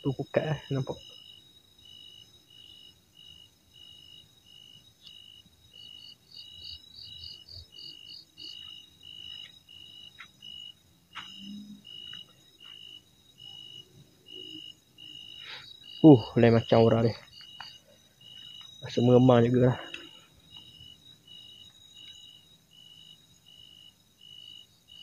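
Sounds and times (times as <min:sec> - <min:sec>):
faster pulsing insect call: 0:00.0 - 0:25.0
high insect drone: 0:00.0 - 0:25.0
insects chirping: 0:00.0 - 0:25.0.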